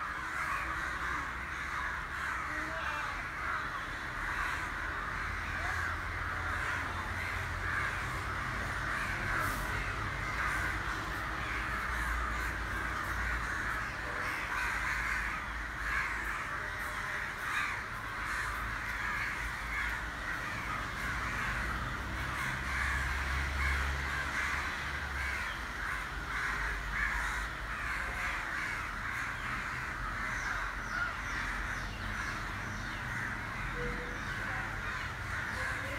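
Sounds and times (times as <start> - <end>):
flock of crows cawing: 0.0 - 35.9.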